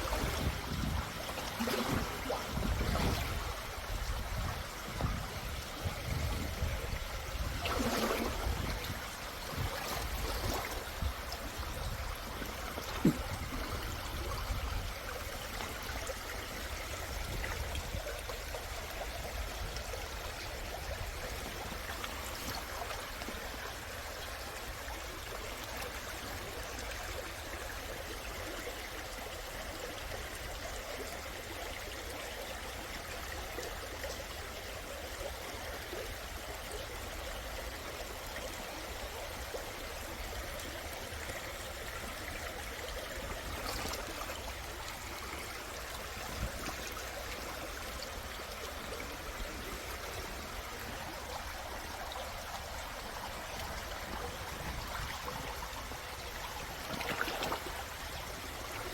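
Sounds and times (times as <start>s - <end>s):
small water splashes: 0.0s - 35.0s, 36.8s - 58.9s
stream flowing over rocks: 0.0s - 58.9s.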